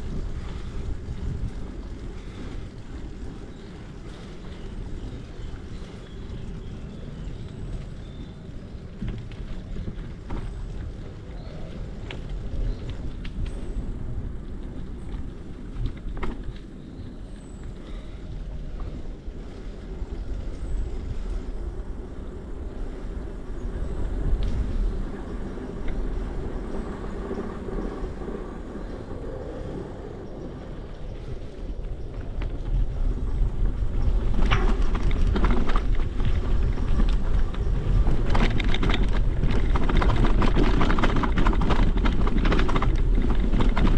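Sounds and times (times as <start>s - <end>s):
bicycle tyres rolling: 0.0s - 43.9s
bike clicks and rattles: 0.0s - 43.9s
wind on microphone: 0.0s - 43.9s.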